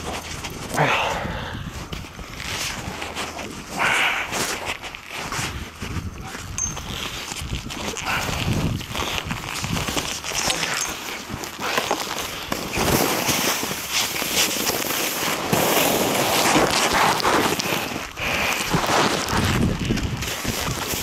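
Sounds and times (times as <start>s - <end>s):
fabric rubbing on microphone: 1.7s - 10.4s, 11.0s - 21.0s.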